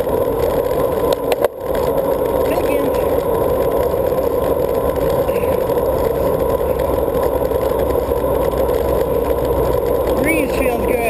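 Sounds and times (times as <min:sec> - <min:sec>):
bicycle tyre noise: 0:00.0 - 0:11.0.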